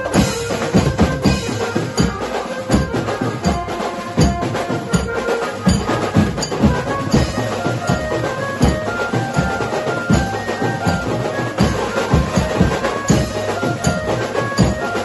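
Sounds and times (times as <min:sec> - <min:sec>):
amplified melody: 0:00.0 - 0:15.0
drums and cymbal beat: 0:00.0 - 0:15.0.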